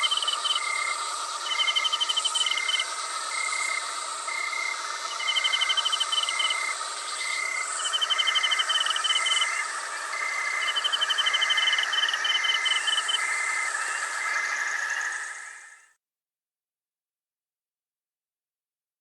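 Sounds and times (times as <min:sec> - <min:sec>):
buzzing insect trills: 0:00.0 - 0:15.4.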